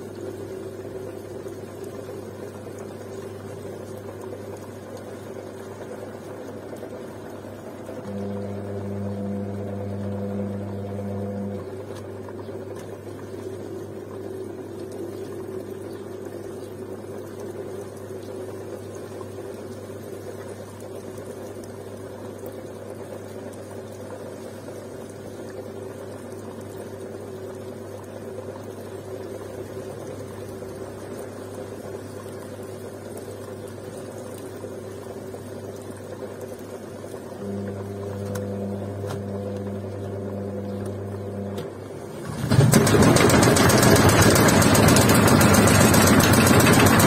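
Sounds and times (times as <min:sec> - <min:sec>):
washing machine hum: 0:00.0 - 0:47.0
water running: 0:00.0 - 0:47.0.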